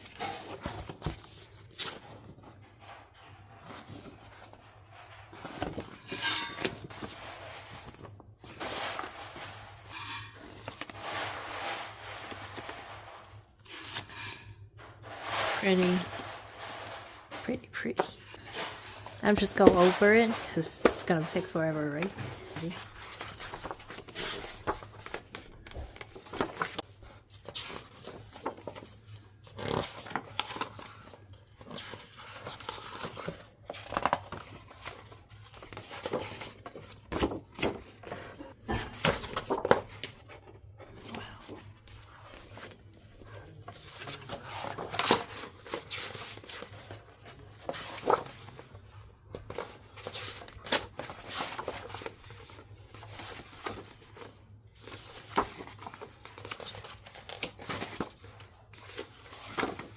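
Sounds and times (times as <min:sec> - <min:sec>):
paper and plastic rustling: 0:00.0 - 0:59.9.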